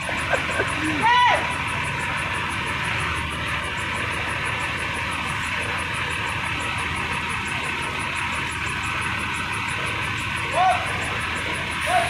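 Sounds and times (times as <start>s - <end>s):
fast high ticking: 0.0s - 12.0s
forklift diesel engine running: 0.0s - 12.0s.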